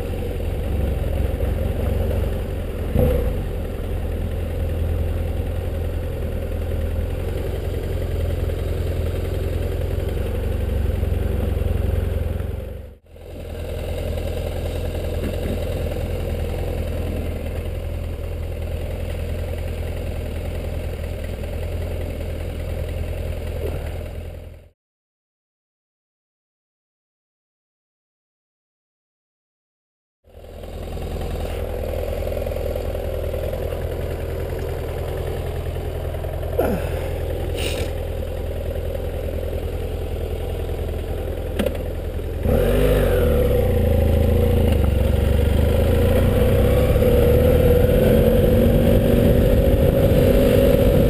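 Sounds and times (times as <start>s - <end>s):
vehicle engine running: 0.0s - 24.8s, 30.3s - 51.0s.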